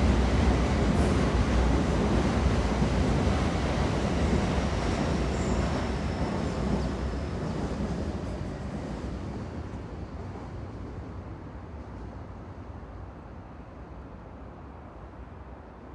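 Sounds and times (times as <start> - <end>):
train rumbling on rails: 0.0 - 15.6.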